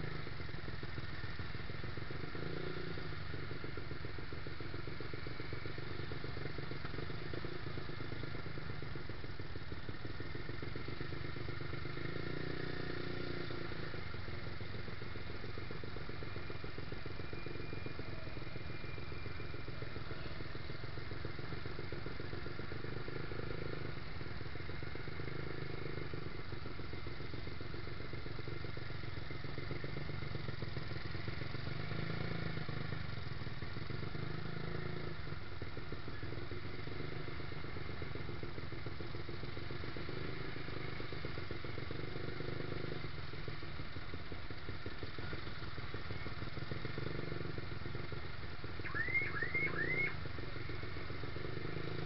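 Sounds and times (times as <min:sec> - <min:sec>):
motorcycle engine at low revs: 0:00.0 - 0:52.0.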